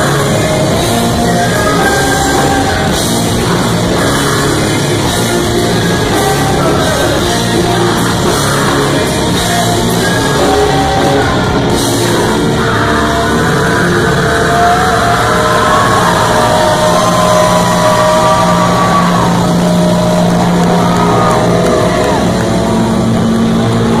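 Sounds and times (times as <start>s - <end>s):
distorted electric guitars droning: 0.0s - 24.0s.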